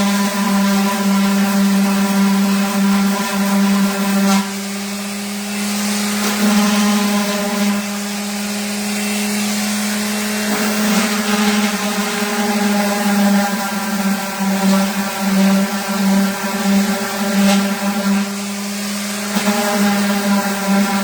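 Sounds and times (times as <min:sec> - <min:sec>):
orbital sander on wood: 0:00.0 - 0:21.0.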